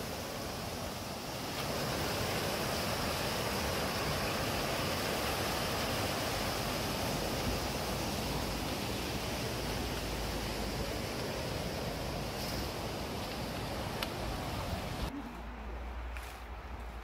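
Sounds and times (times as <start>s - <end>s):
stream rushing over rocks: 0.0s - 15.1s.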